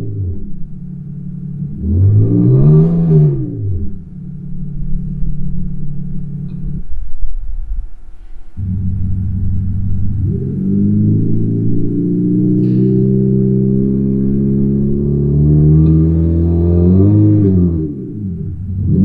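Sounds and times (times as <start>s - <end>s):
synthetic engine sound idling and revving: 0.0s - 19.0s.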